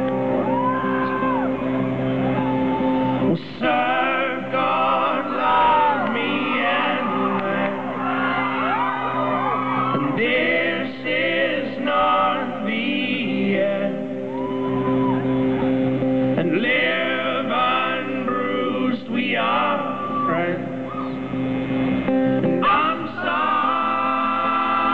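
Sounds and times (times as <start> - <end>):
voices singing in harmony: 2.6 - 24.9.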